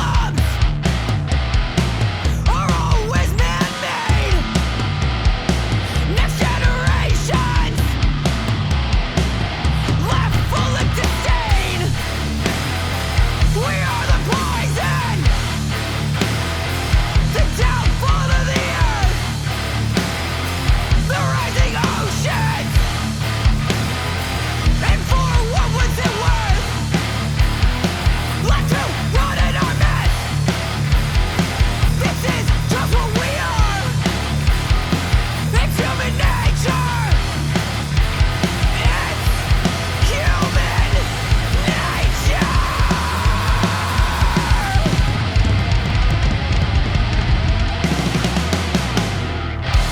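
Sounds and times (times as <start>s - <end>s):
driving drum beat: 0.0s - 49.9s
loud rock music: 0.0s - 49.9s.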